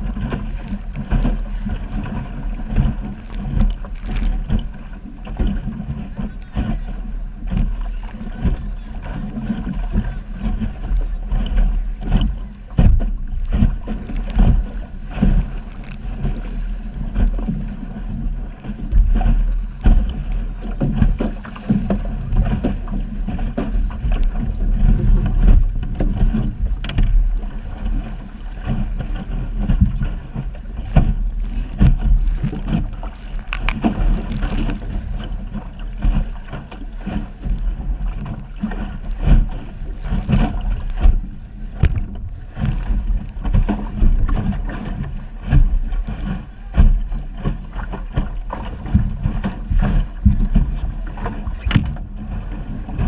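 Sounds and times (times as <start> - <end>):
water slapping against hull: 0.0 - 53.0
wind buffeting microphone: 0.0 - 53.0.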